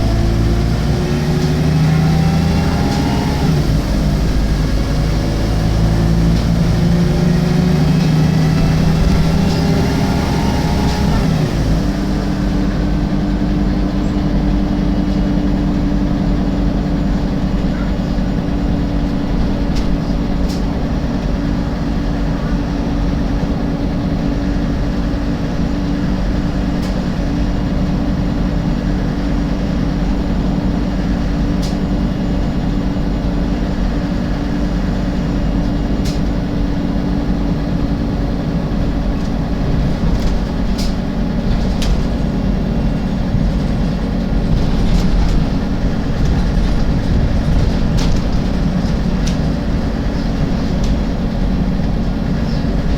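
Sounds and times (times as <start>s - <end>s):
bus engine drone: 0.0s - 52.9s.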